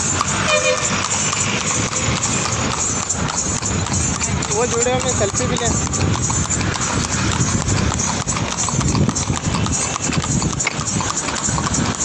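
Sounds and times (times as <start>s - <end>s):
horse hooves on asphalt: 0.0s - 12.0s.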